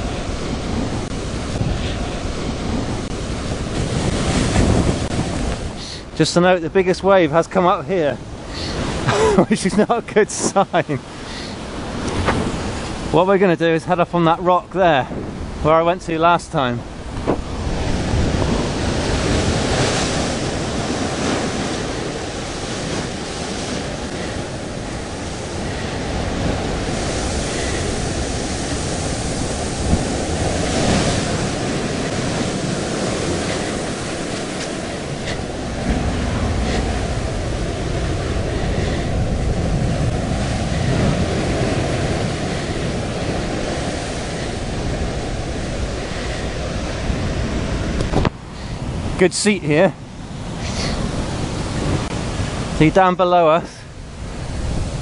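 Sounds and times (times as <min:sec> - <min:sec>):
wind buffeting microphone: 0:00.0 - 0:53.0, 0:53.6 - 0:55.0
surf breaking on rocks: 0:00.0 - 0:55.0.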